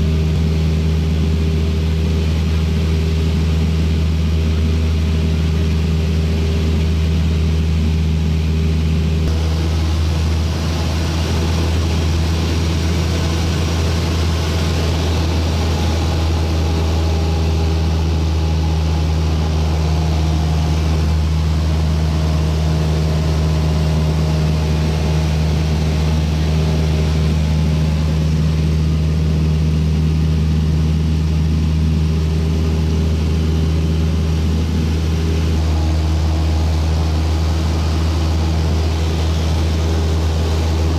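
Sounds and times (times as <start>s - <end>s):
propeller aircraft engine droning: 0.0s - 40.9s.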